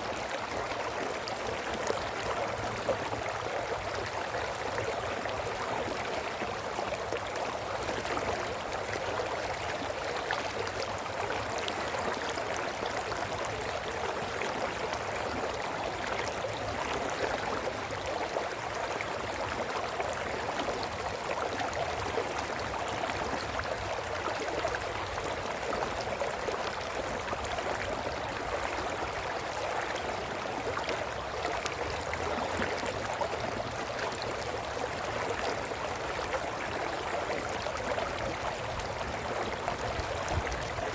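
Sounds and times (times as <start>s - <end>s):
brook burbling over stones: 0.0s - 40.9s.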